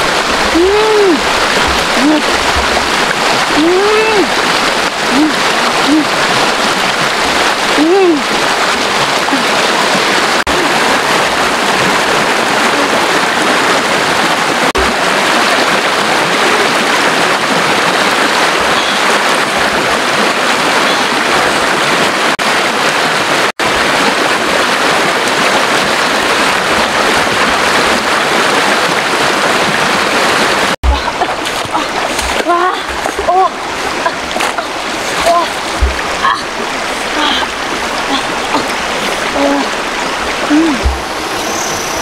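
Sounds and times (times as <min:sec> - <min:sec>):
stream water rushing over rocks: 0:00.0 - 0:42.0.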